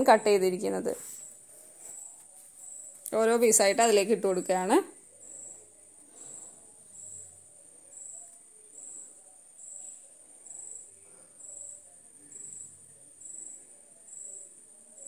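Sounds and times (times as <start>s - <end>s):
crickets chirping: 0.0s - 15.0s
high-pitched insect trill: 1.0s - 15.0s.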